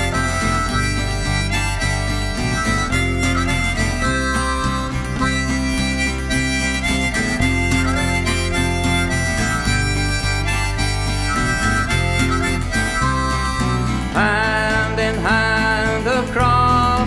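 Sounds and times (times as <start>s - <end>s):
reed instrument melody: 0.0s - 16.9s
guitar chords: 0.0s - 17.0s
steady bass: 0.0s - 17.0s.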